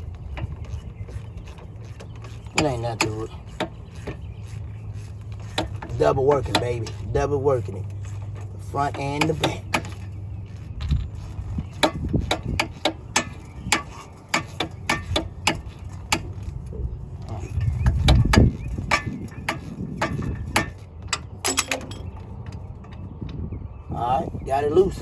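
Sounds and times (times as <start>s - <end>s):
sharp metal clicks and knocks: 0.0s - 23.4s.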